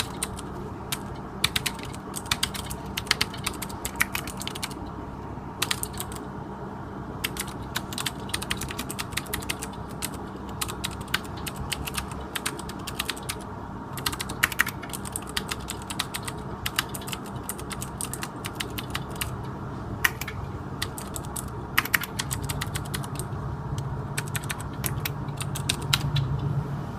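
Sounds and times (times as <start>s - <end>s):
mechanical keyboard typing clicks: 0.0s - 4.8s, 5.6s - 6.3s, 7.2s - 13.4s, 14.0s - 26.4s
faint steady hum: 0.0s - 26.9s.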